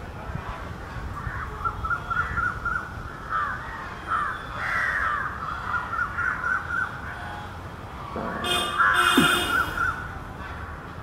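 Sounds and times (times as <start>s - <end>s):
birds calling: 0.8s - 11.0s.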